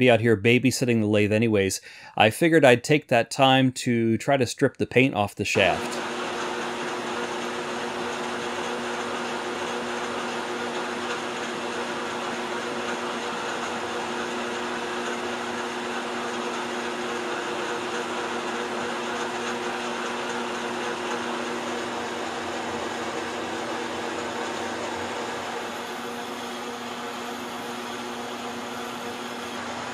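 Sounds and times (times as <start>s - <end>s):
metal lathe cutting: 5.6s - 29.9s.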